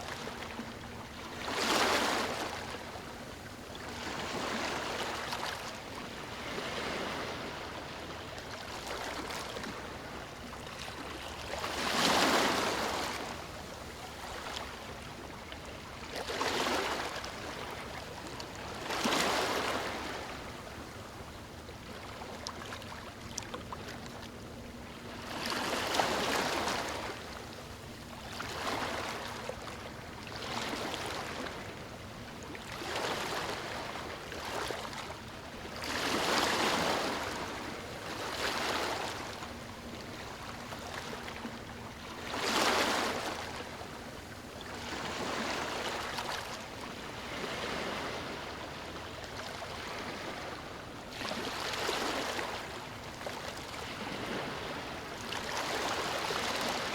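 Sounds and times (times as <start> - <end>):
small waves washing on beach: 0.0 - 21.4, 32.6 - 56.9.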